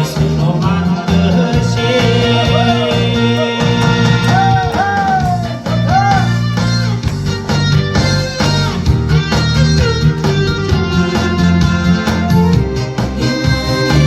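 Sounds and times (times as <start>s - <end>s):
bass and steady beat: 0.0s - 14.0s.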